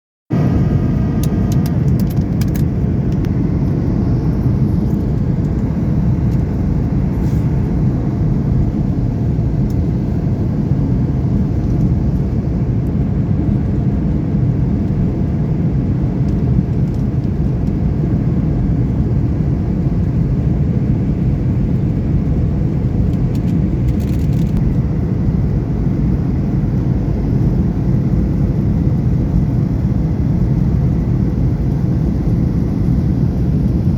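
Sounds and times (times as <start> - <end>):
airliner cabin engine rumble: 0.3 - 33.9.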